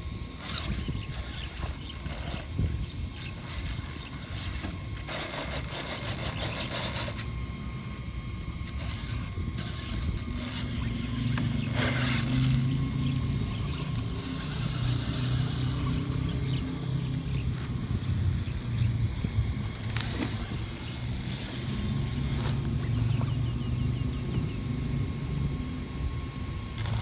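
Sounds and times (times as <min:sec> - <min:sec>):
toy car motor whining: 0:00.0 - 0:27.0.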